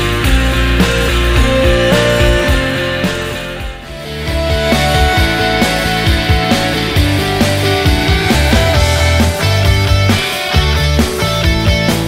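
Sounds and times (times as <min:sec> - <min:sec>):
rock music with drums and bass: 0:00.0 - 0:12.0.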